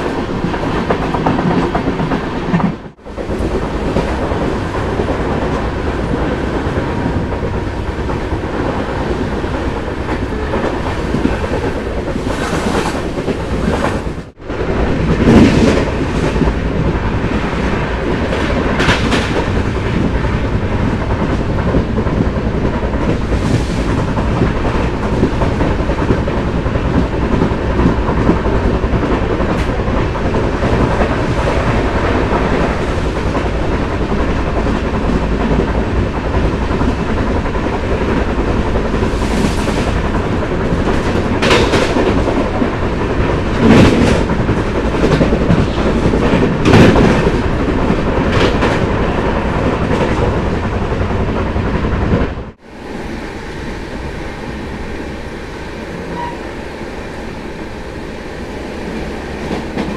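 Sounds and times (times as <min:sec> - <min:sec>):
clickety-clack over rail joints: 0:00.0 - 0:52.6, 0:58.6 - 0:59.9
train clatter: 0:00.0 - 0:59.9
train wheels rumbling on rails: 0:00.0 - 0:59.9.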